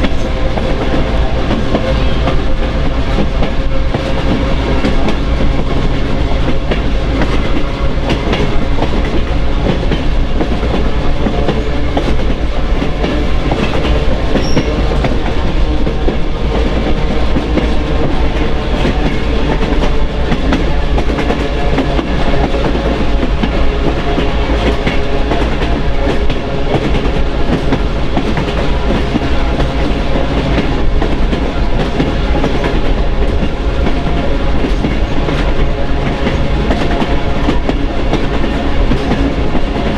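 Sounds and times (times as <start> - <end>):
clickety-clack over rail joints: 0.0 - 39.9
train wheels on rail: 0.0 - 39.9.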